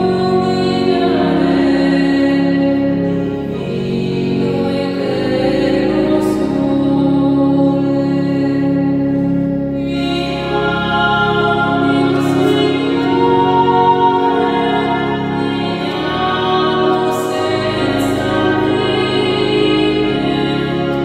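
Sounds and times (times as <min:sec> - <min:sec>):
person singing a slow hymn: 0:00.0 - 0:21.0
sustained accompaniment: 0:00.0 - 0:21.0.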